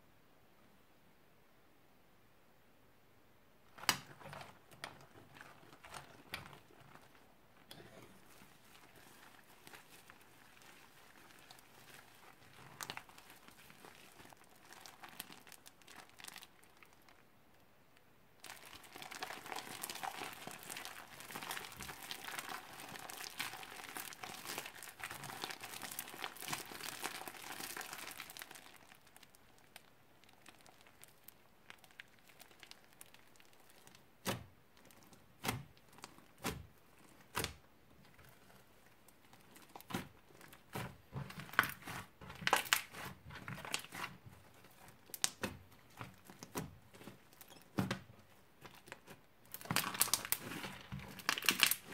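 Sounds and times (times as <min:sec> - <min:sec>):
hands squishing foam slime: 0:03.7 - 0:17.2, 0:18.4 - 0:51.9.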